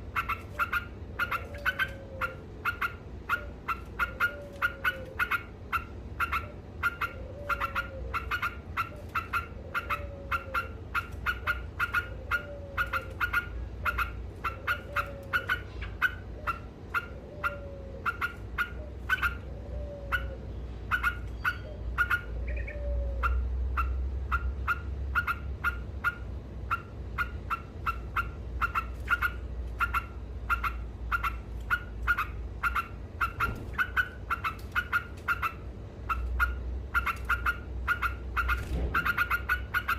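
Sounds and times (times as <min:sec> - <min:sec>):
bird rapid chattering calls: 0:00.0 - 0:39.9.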